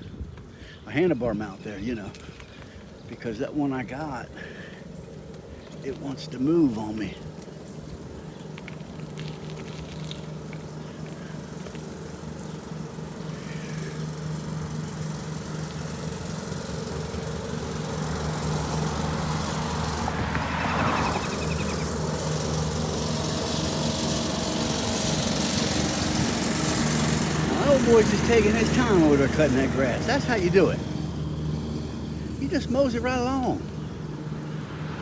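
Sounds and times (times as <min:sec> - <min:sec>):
lawn mower engine running: 0:00.9 - 0:35.0.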